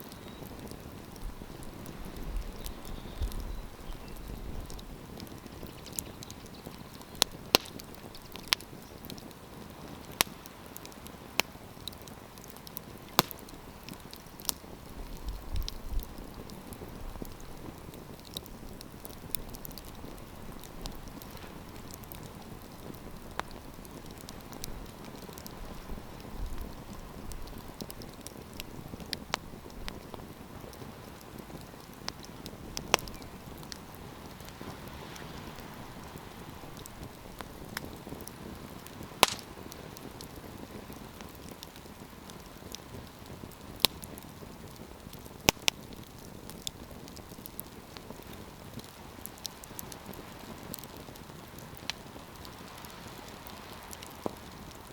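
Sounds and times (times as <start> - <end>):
campfire crackling and popping: 0.0 - 54.9
hiss of flames: 7.2 - 54.9.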